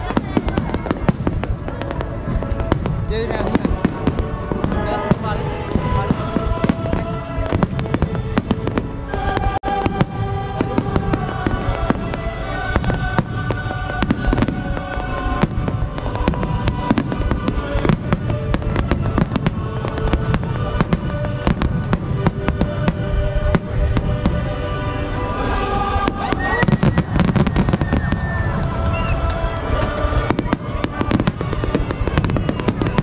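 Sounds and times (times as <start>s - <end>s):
fireworks bangs and crackles: 0.0s - 33.0s
music playing: 0.0s - 33.0s.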